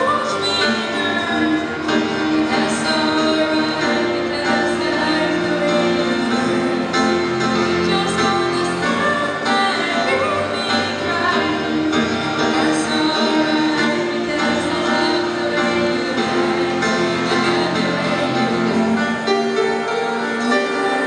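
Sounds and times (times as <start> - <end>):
grand piano: 0.0 - 21.0
woman singing: 0.0 - 21.0.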